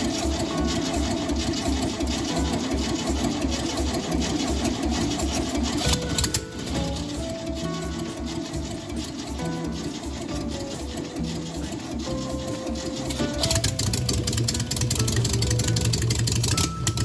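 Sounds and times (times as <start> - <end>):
background music: 0.0 - 17.0
starter motor cranking engine: 0.0 - 17.0.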